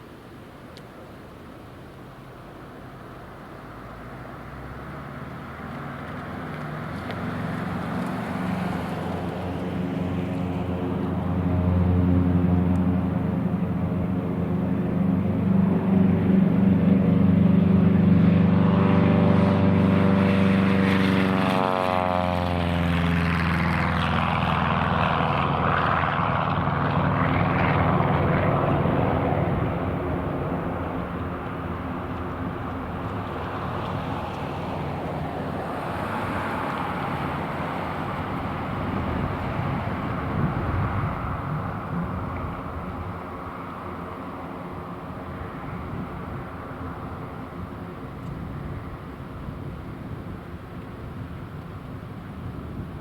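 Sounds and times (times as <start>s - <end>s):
propeller plane passing: 2.0s - 53.0s.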